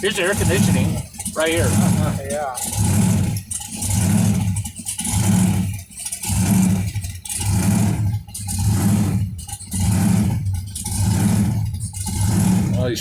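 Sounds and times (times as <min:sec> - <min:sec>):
supercharged engine surging: 0:00.0 - 0:13.0.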